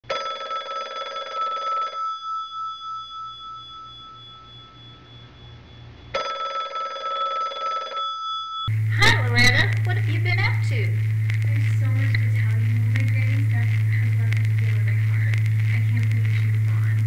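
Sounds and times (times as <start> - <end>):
telephone ringing: 0.0 - 17.0.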